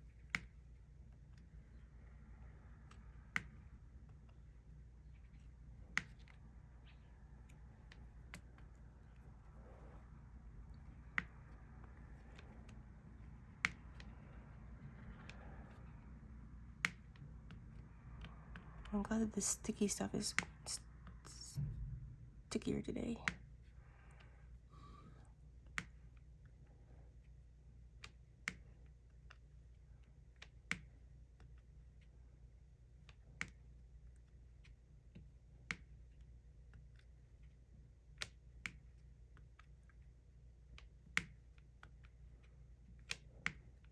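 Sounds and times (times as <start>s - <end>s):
faint low hum: 0.0s - 43.9s.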